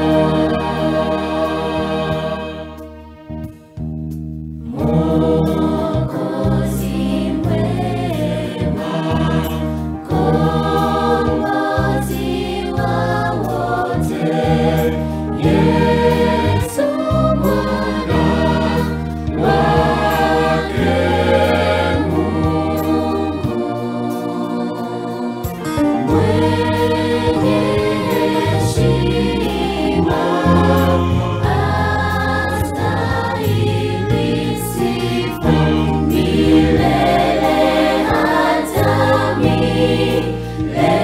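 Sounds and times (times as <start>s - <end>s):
children's choir singing: 0.0s - 2.9s, 4.7s - 41.0s.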